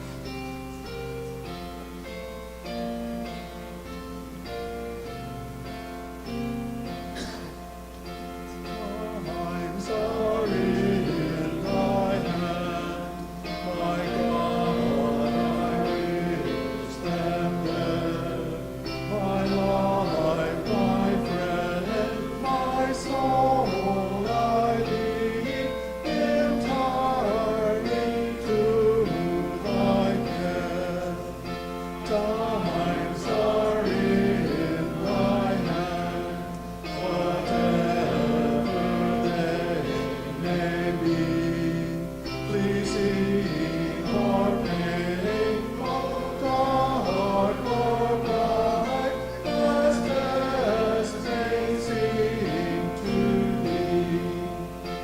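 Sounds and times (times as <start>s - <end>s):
congregation singing a hymn: 0.0s - 55.0s
instrumental accompaniment: 0.0s - 55.0s.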